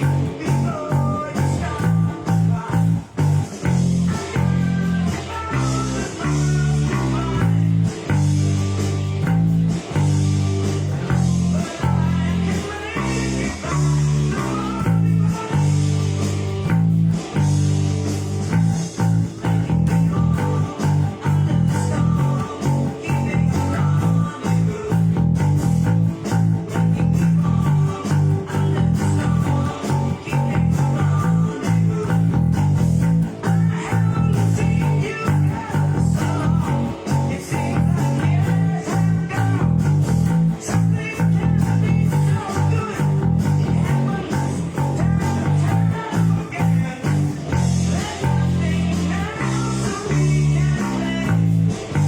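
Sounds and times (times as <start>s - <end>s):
electric bass guitar riff: 0.0s - 52.0s
electric guitar: 0.0s - 52.0s.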